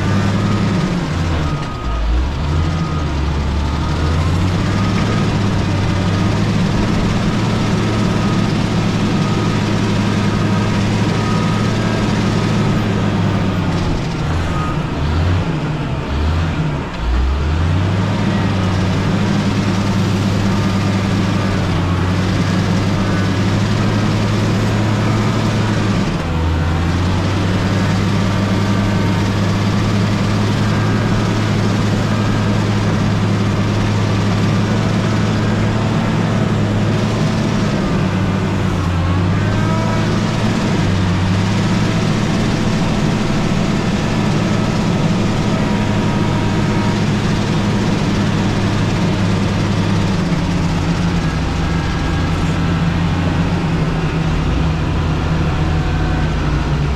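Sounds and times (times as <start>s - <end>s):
diesel engine humming: 0.0s - 56.9s.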